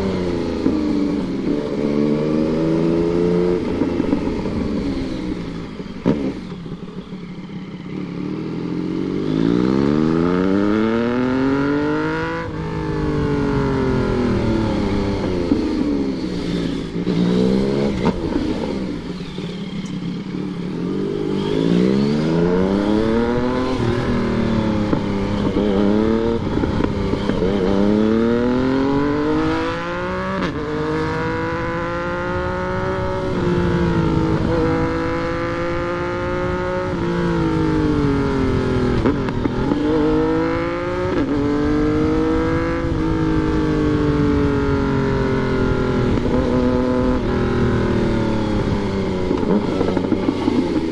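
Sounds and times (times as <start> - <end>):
motorcycle engine revving through gears: 0.0 - 50.9.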